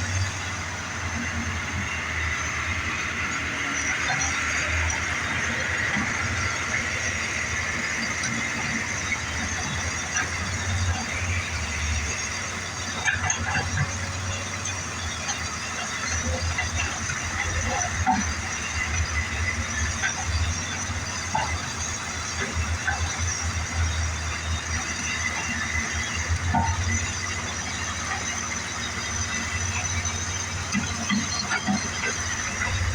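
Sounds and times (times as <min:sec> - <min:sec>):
excavator diesel engines running: 0:00.0 - 0:32.9.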